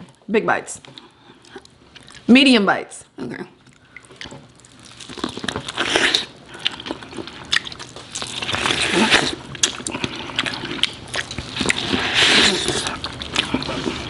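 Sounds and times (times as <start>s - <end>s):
people chewing corn: 0.9s - 2.3s, 3.6s - 14.0s.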